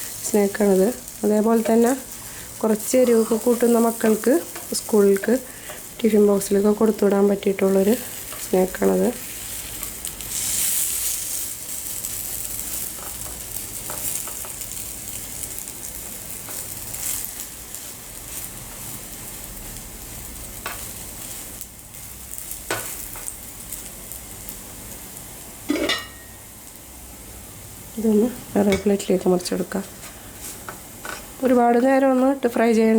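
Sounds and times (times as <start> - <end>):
bread frying in a pan: 0.0 - 32.9.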